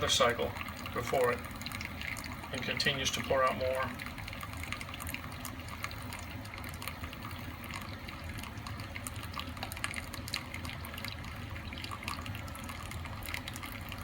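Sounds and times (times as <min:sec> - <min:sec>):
coffee machine hum: 0:00.0 - 0:14.0
coffee trickling into a cup: 0:00.0 - 0:14.0.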